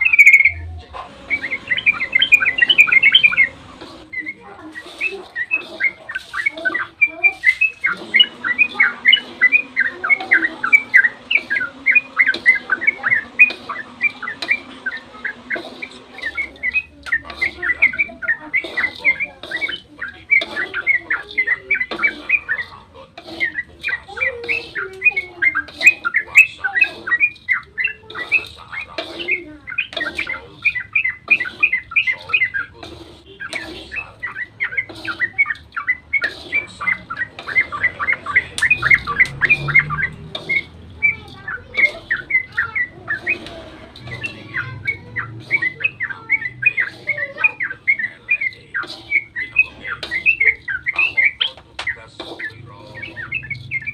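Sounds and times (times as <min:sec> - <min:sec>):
bulbul chattering song: 0:00.0 - 0:53.9.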